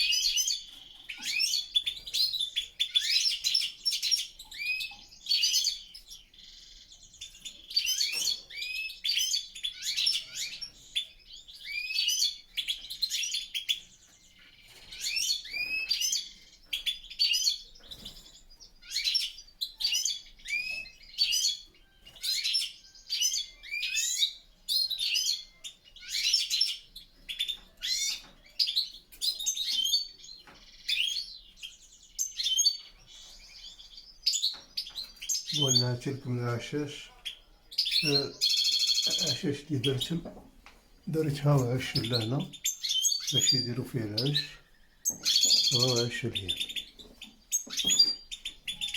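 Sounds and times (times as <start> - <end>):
finches singing and twittering: 0.0 - 48.9.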